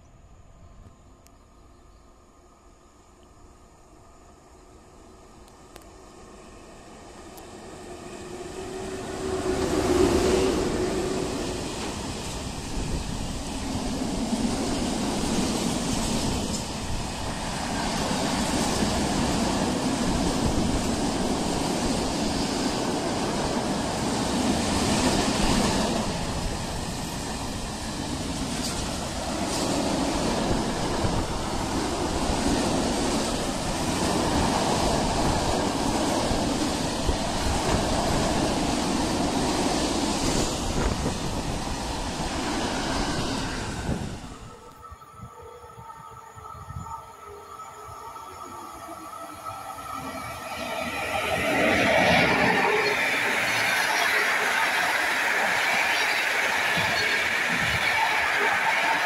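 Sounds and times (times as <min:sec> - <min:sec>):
freight train wheels rumbling: 0:04.8 - 0:59.0.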